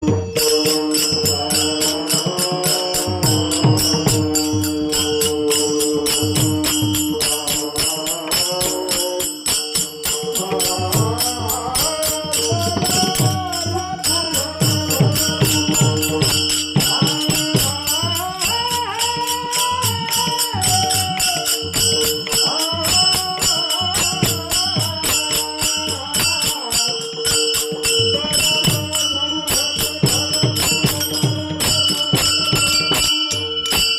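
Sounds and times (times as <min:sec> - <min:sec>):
metallic percussion jingling: 0:00.0 - 0:33.9
person singing devotional song: 0:00.0 - 0:33.9.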